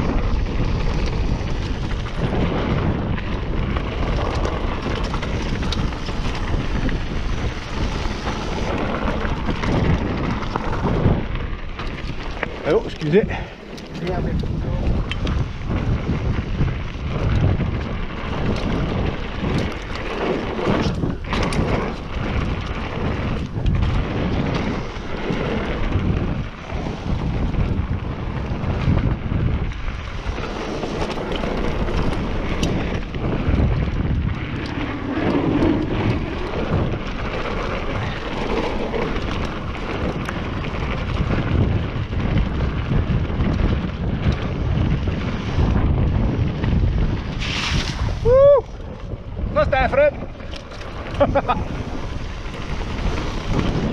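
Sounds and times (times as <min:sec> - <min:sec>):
bike clicking and rattling: 0:00.0 - 0:53.9
tyres rumbling on dirt: 0:00.0 - 0:53.9
wind rush on microphone: 0:00.0 - 0:53.9.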